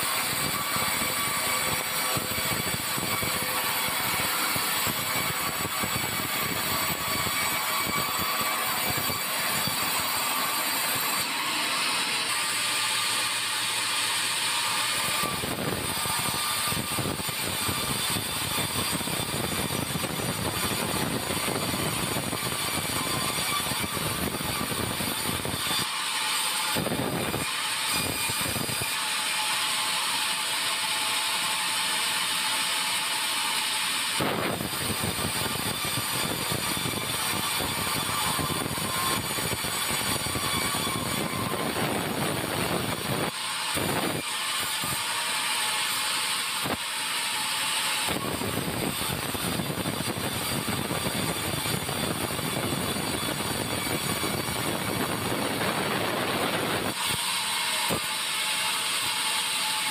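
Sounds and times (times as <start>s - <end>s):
band saw blade hissing and whining: 0.0s - 59.9s.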